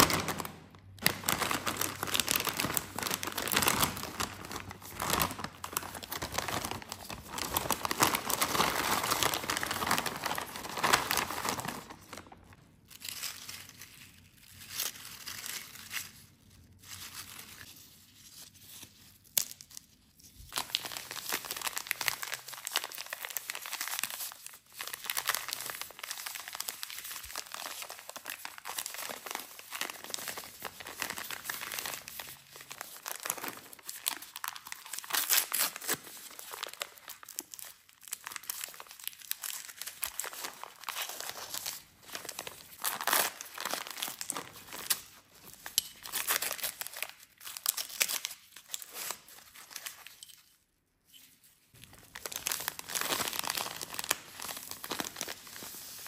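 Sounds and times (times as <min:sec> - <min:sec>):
plastic packets crinkling and tearing: 0:00.0 - 0:17.7, 0:19.2 - 0:50.4, 0:51.7 - 0:56.0.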